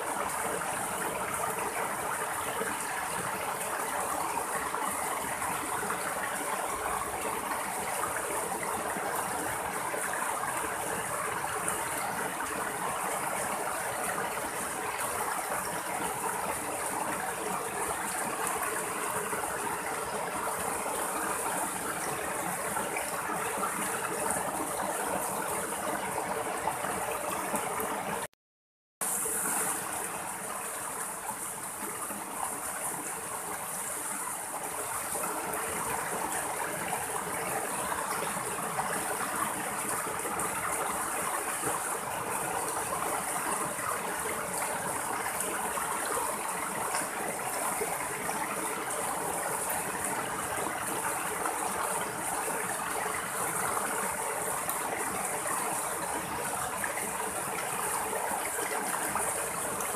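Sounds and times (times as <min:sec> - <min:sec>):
stream gurgling over boulders: 0:00.0 - 0:28.3, 0:29.0 - 0:59.9.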